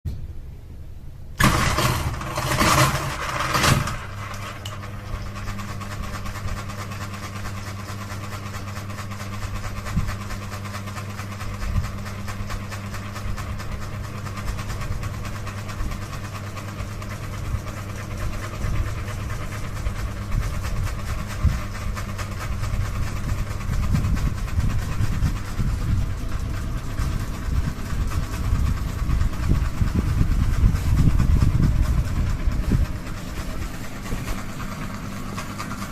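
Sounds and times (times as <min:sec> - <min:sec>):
ceiling fan motor hum: 0:00.1 - 0:35.9
wobbling fan rumbling and knocking: 0:00.1 - 0:35.9.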